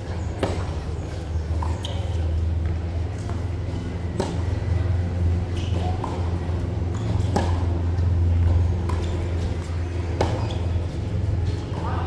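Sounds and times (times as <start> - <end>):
steady low hum: 0.0 - 12.0
tennis ball hit and bouncing: 0.1 - 12.0.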